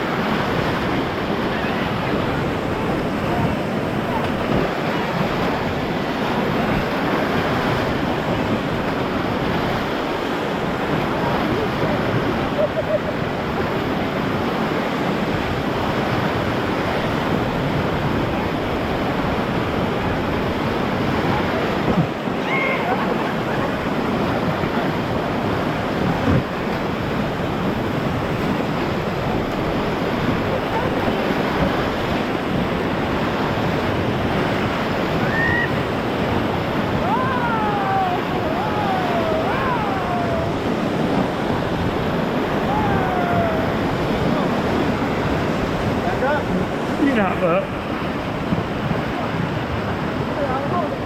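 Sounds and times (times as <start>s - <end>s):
whitewater rushing: 0.0s - 51.0s.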